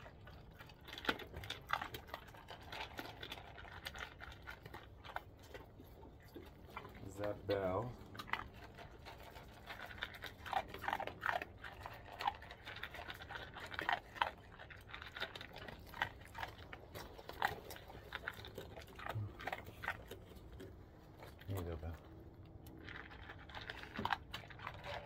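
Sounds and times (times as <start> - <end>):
dog crunching dry kibble: 0.0 - 25.0.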